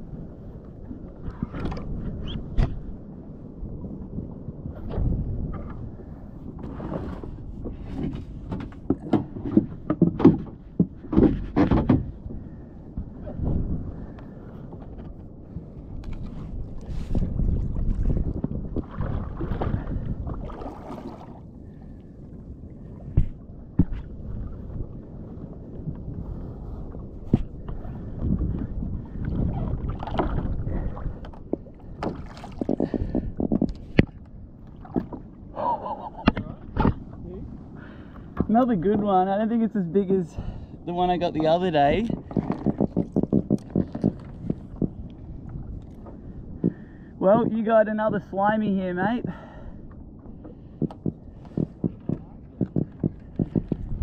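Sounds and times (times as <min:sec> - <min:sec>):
wind rumble on microphone: 0:00.0 - 0:54.0
water sloshing against kayak hull: 0:03.9 - 0:39.1, 0:40.4 - 0:48.4, 0:49.2 - 0:54.0.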